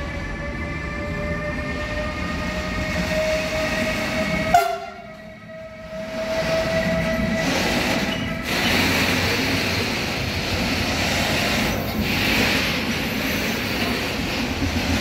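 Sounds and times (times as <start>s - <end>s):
locomotive whine: 0.0s - 15.0s.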